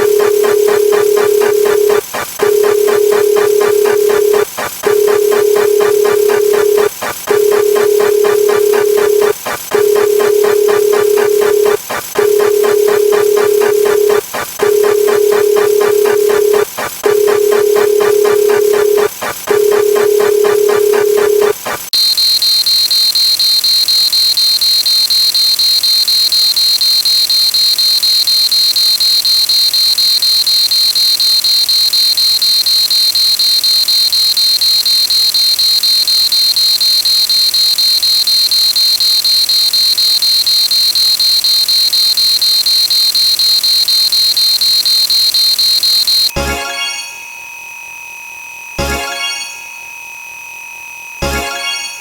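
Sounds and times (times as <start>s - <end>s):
high-pitched electronic buzzer: 0.0s - 48.1s, 48.8s - 52.0s.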